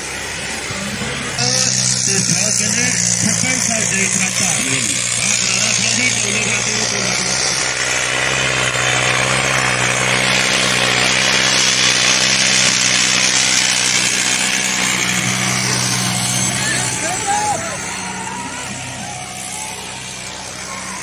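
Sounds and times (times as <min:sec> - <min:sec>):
tractor engine under load: 0:00.0 - 0:21.0.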